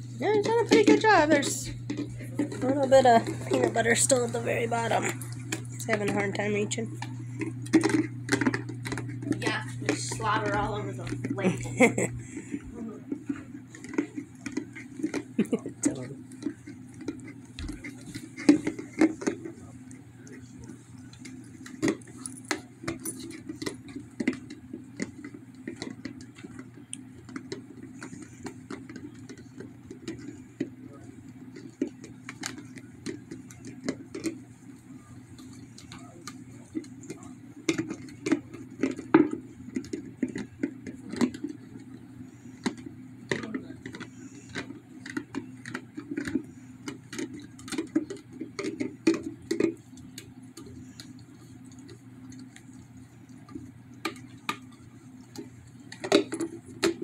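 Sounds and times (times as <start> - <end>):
dog chewing plastic jar: 0.1 - 57.0.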